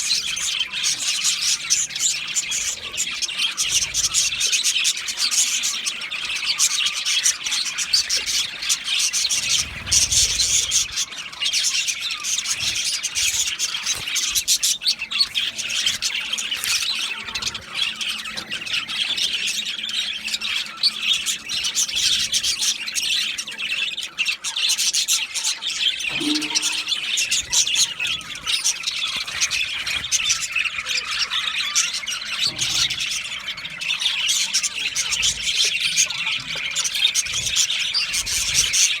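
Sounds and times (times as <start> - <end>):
flock of budgerigars chattering: 0.0 - 39.0.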